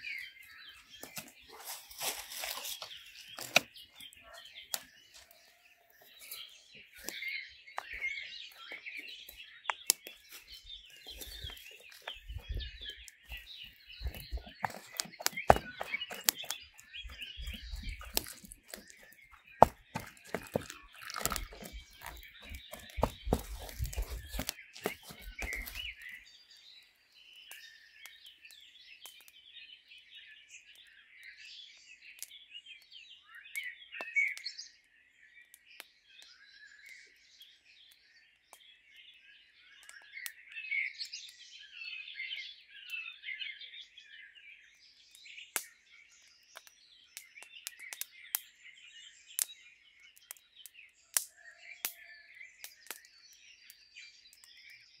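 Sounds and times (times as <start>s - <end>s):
wild birds chorus: 0.0s - 55.0s.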